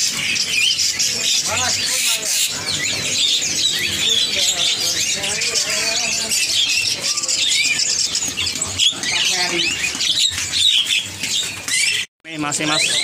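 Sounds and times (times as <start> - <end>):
small birds chirping and squawking: 0.0 - 13.0.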